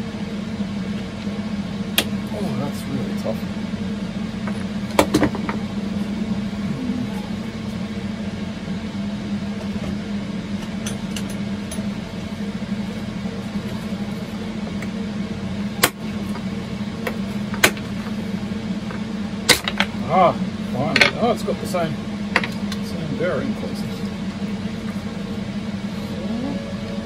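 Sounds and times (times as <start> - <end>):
computer server fans humming: 0.0 - 27.0.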